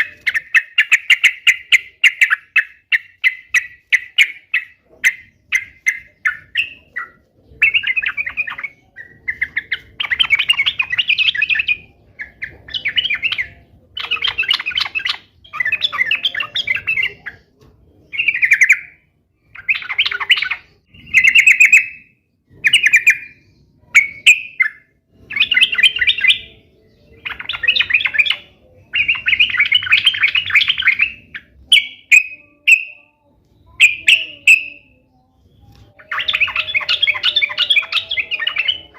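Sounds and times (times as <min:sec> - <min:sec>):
bulbul chattering song: 0:00.0 - 0:38.9.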